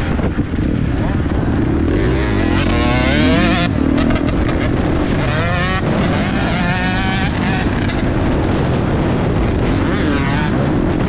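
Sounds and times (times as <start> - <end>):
dirt bike engine accelerating: 0.0 - 11.0
wind on microphone: 0.0 - 11.0.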